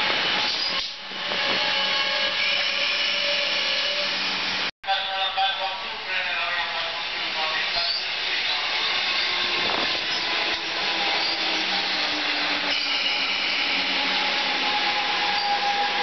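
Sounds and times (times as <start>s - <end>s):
train wheels rushing on rails: 0.0s - 4.7s, 6.6s - 16.0s.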